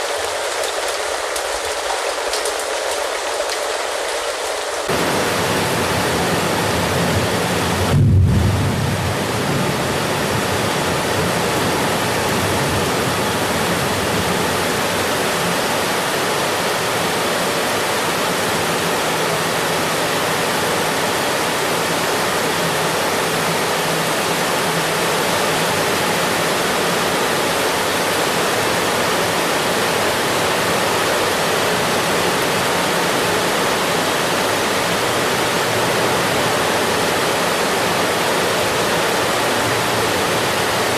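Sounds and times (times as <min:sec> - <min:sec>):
dense rain falling: 0:00.0 - 0:40.9.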